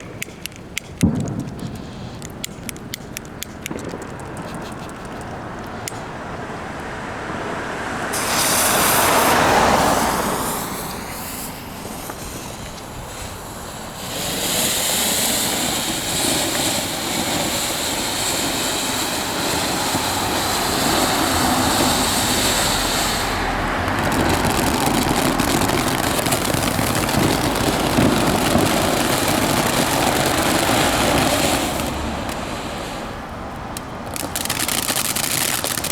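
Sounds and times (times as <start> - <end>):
crackling clicks: 0.0 - 6.1, 10.8 - 35.9
fireworks fountain hissing sparks: 0.0 - 35.9.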